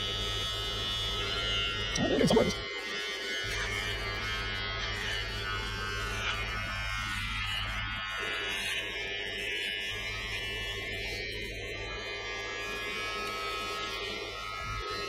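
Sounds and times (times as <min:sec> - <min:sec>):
electric trimmer buzzing: 0:00.0 - 0:15.0.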